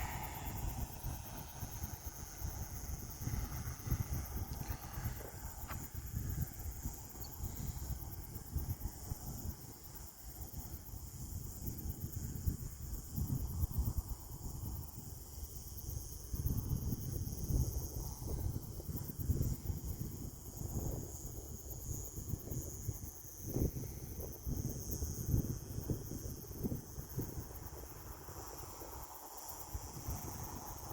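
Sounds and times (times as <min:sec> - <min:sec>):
crickets chirping: 0:00.0 - 0:30.9
wind buffeting microphone: 0:00.0 - 0:30.9.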